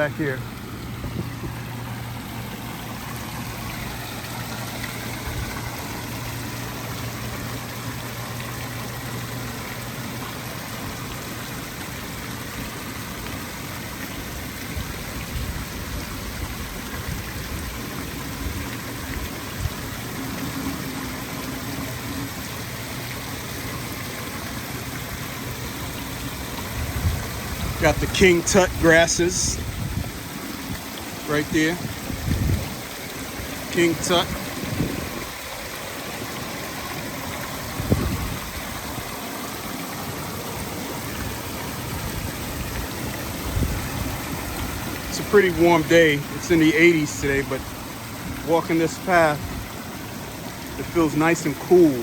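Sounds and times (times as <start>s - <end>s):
fountain water splashing: 0.0s - 52.0s.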